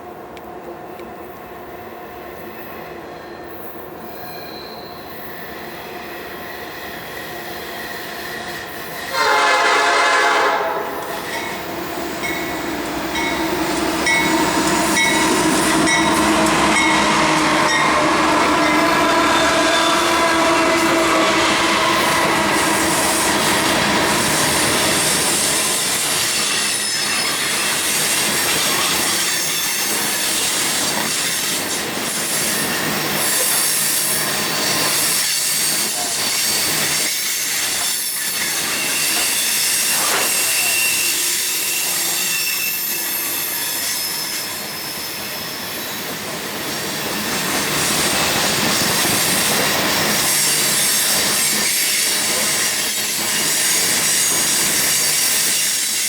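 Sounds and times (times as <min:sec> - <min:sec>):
railroad cars rumbling and clattering: 0:00.0 - 0:56.0
steel wheels squealing on rails: 0:02.1 - 0:56.0.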